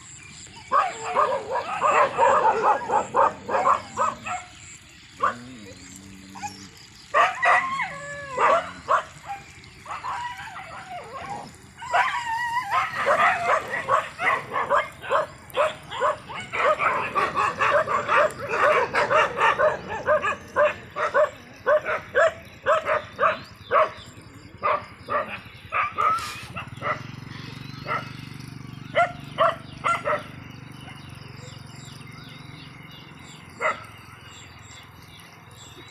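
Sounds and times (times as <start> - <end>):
dogs barking and yelping: 0.0 - 34.8.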